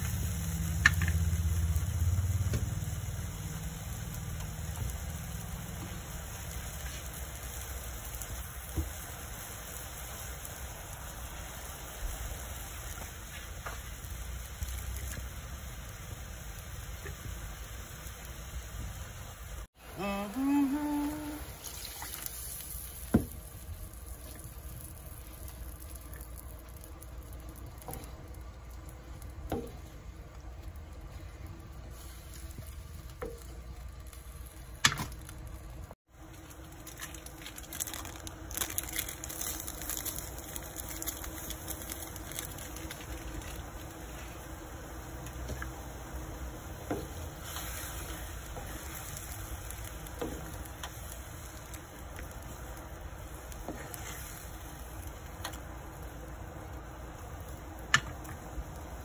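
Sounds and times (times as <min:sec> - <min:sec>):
food bubbling and sizzling in a pot: 0:00.0 - 0:59.0.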